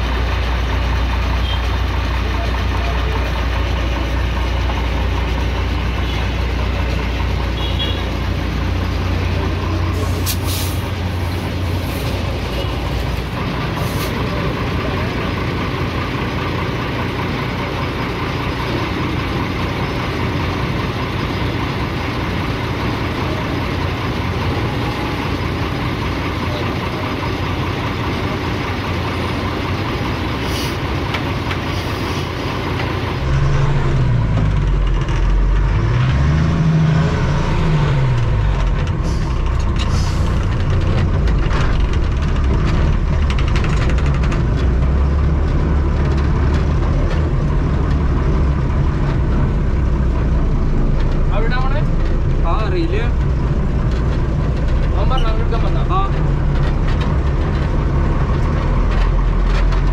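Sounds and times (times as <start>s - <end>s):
diesel truck engine revving: 0.0s - 59.9s.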